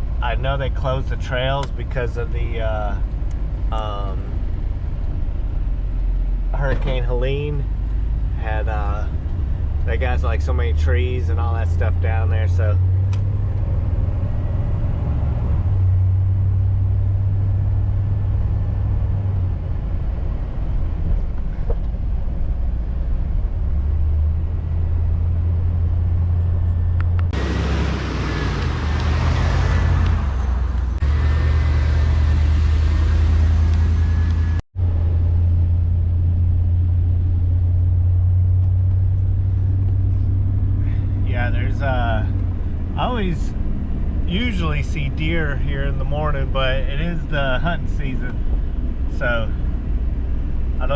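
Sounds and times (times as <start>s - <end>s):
van engine and road noise: 0.0s - 50.9s.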